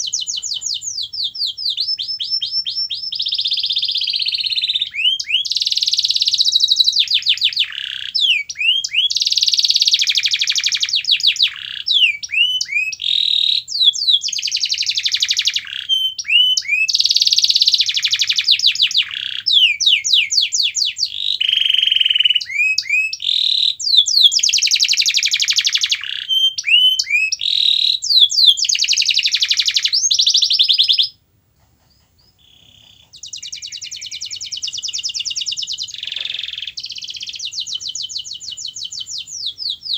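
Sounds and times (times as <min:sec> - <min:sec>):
canary singing trills and whistles: 0:00.0 - 0:31.2, 0:31.8 - 0:39.9.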